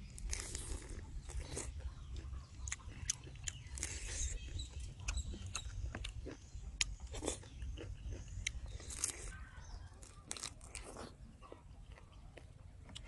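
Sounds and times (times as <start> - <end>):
person chewing crab: 0.0 - 13.0.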